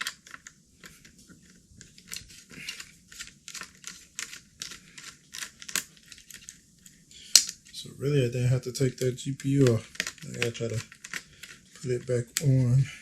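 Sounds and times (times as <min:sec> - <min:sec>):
objects clicking and crinkling: 0:00.0 - 0:07.8, 0:08.8 - 0:13.0.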